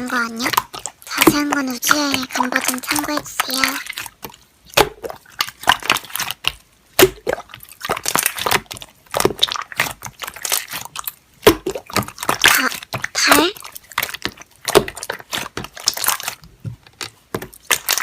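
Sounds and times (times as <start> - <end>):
slime squished by hand: 0.0 - 18.0.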